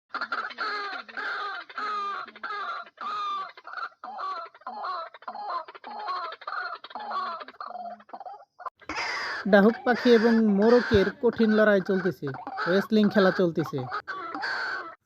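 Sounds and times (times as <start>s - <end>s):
fowl calling harshly: 0.1s - 15.0s.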